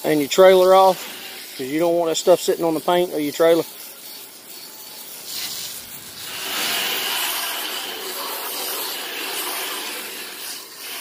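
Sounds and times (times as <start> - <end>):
hose spray hissing on metal: 0.0 - 11.0.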